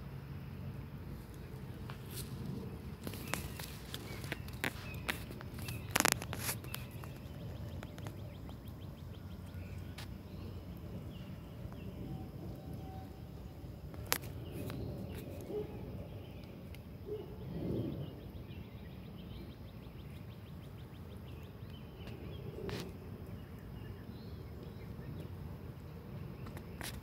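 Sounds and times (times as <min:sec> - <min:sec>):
rustling in dry leaves: 0:00.4 - 0:19.0, 0:19.6 - 0:27.0.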